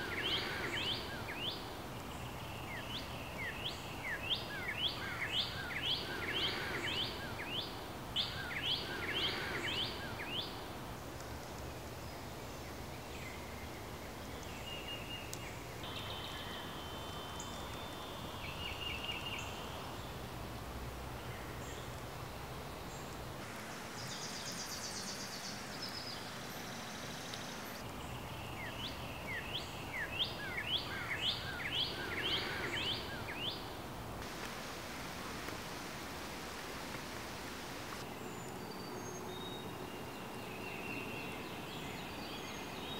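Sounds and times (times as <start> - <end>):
steady outdoor hiss: 0.0 - 42.9.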